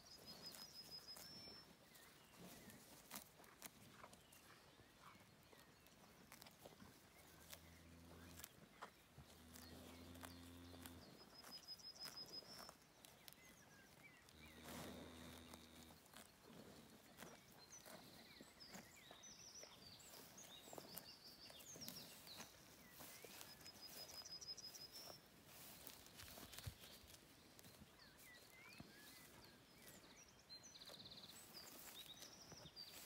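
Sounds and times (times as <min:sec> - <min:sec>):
cow tearing and chewing grass: 0:00.0 - 0:33.0
small birds chirping: 0:00.0 - 0:33.0.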